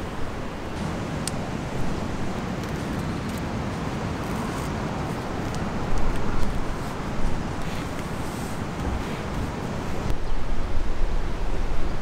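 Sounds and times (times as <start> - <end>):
wind: 0.0 - 12.0
wind buffeting microphone: 0.0 - 12.0.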